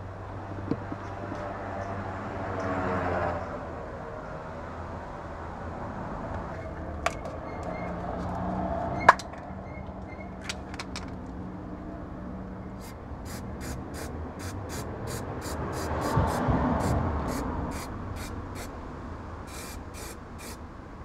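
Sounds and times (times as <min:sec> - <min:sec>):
vehicle passing: 0:00.2 - 0:09.1, 0:11.2 - 0:21.0.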